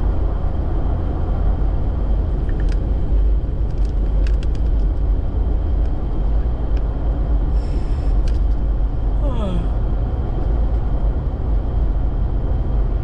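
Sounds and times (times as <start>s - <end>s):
truck engine and tyre rumble: 0.0s - 13.0s.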